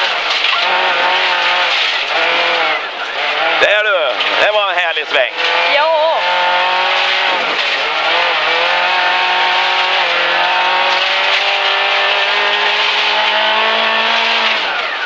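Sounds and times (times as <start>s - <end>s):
car engine running hard: 0.0s - 15.0s
gravel under tyres: 0.0s - 15.0s.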